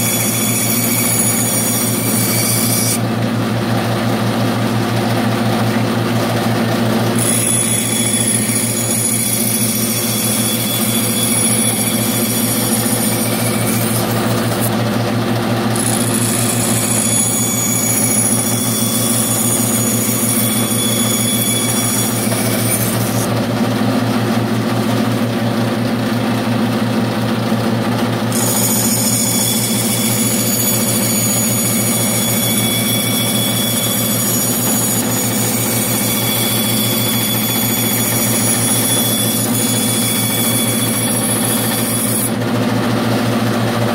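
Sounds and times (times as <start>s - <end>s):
band saw cutting wood: 0.0s - 43.9s.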